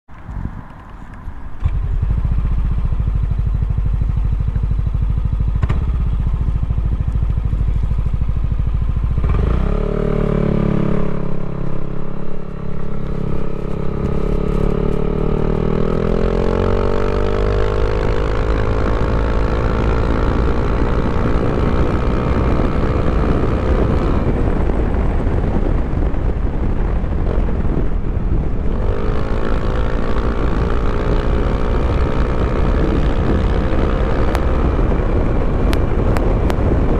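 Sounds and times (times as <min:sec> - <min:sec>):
scooter engine revving: 0:01.6 - 0:24.9, 0:28.8 - 0:36.8.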